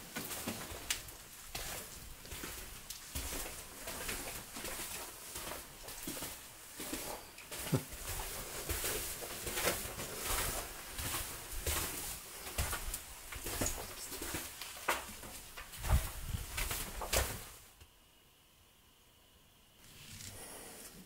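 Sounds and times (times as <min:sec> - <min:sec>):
footsteps crinkling paper: 0:00.0 - 0:17.8.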